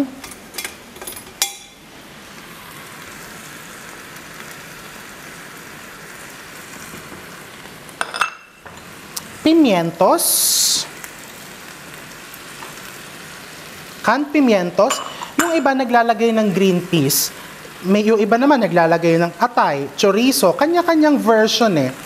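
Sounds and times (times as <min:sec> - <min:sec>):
hot oil sizzling in a frying pan: 0:00.0 - 0:22.0.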